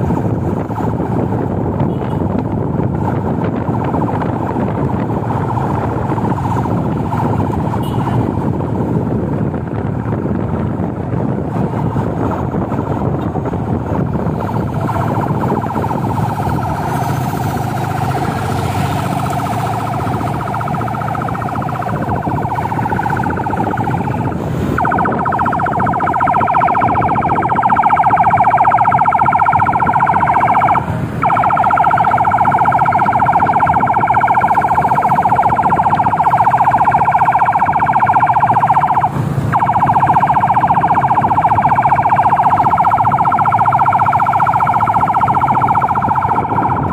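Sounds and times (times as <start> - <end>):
police siren steady tone: 0.0 - 46.9
traffic and engine noise: 0.0 - 46.9.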